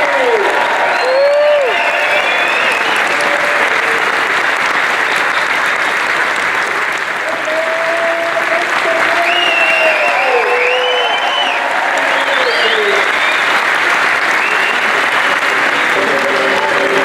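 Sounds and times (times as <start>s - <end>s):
large crowd applauding: 0.0s - 17.0s.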